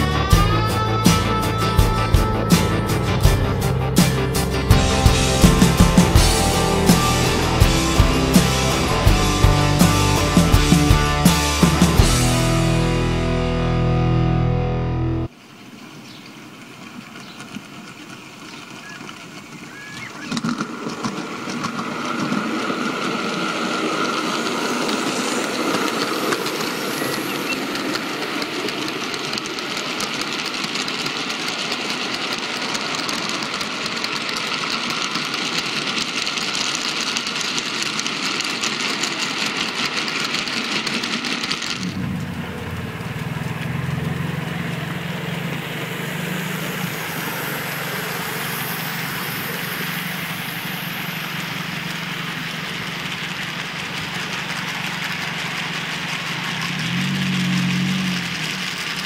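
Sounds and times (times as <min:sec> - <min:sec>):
model train wheels rattling: 0:00.0 - 0:13.7, 0:16.0 - 0:59.0
model locomotive humming: 0:00.0 - 0:59.0.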